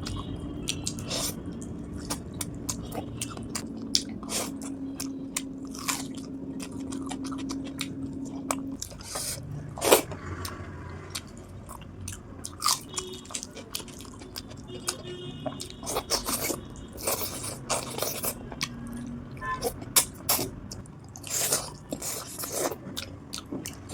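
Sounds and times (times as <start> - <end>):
close chewing and mouth sounds: 0.0 - 23.9.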